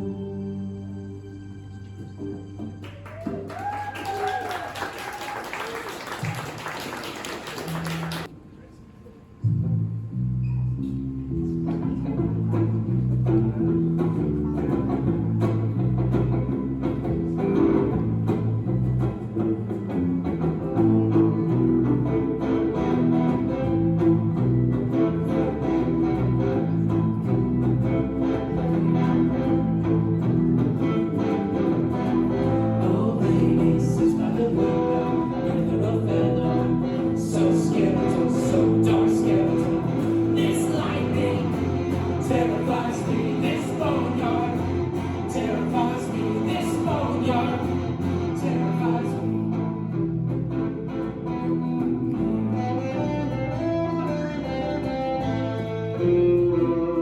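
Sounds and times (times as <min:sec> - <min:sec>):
electric guitar: 0:09.4 - 0:57.0.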